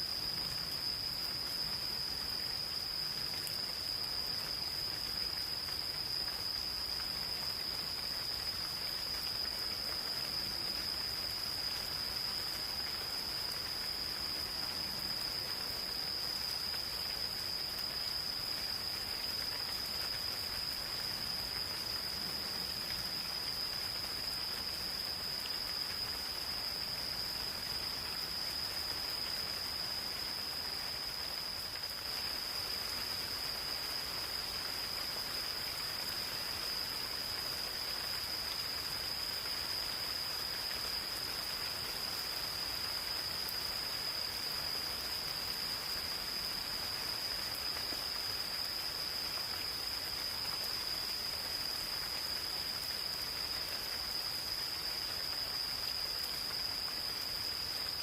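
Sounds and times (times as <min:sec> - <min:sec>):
gentle rain in forest: 0:00.0 - 0:58.0
high-pitched insect chorus: 0:00.0 - 0:58.0.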